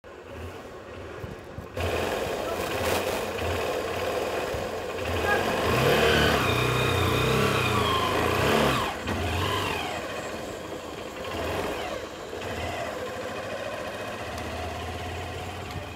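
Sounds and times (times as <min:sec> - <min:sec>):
motorcycle engine revving and idling: 0:00.1 - 0:15.9.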